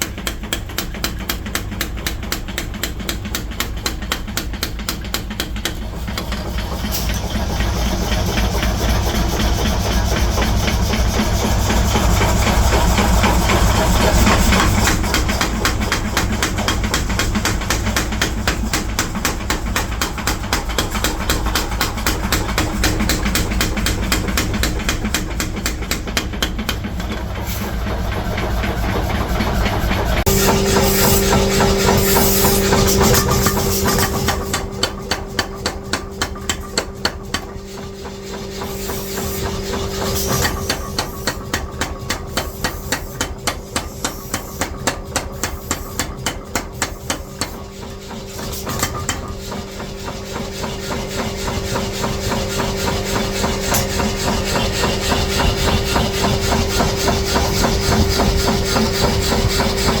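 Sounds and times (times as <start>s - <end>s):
machine hum: 5.6s - 46.6s, 47.2s - 60.0s.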